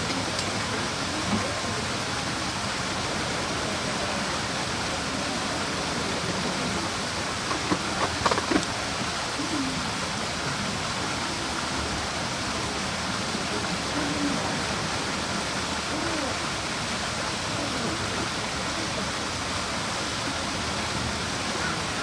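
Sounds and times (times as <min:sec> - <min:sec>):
faint distant voices: 0:00.0 - 0:22.0.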